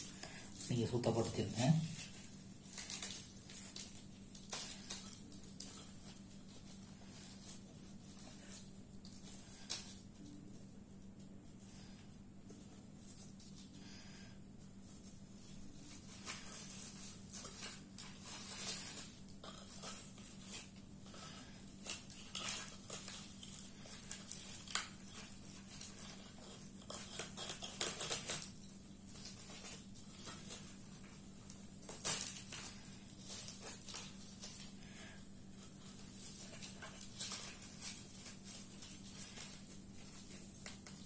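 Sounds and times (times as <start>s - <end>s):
paper rustling: 0.0s - 11.9s, 14.7s - 41.0s
faint steady hum: 0.0s - 41.0s.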